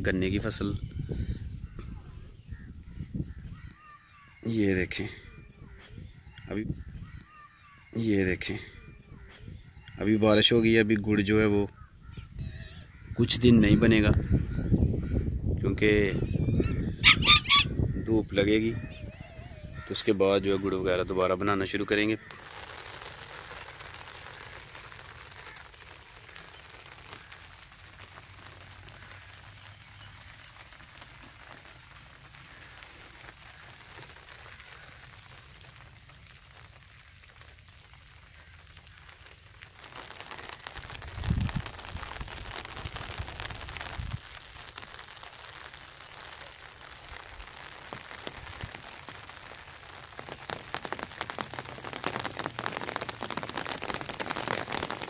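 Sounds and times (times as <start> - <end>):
light rain pattering on leaves: 0.0 - 14.4, 19.7 - 55.0.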